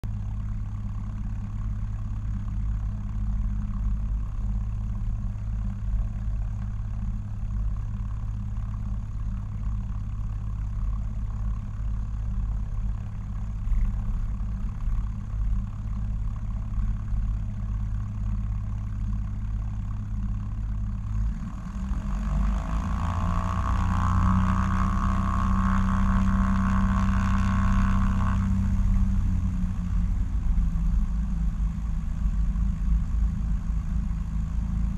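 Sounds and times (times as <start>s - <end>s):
propeller plane engine running: 0.0s - 34.9s.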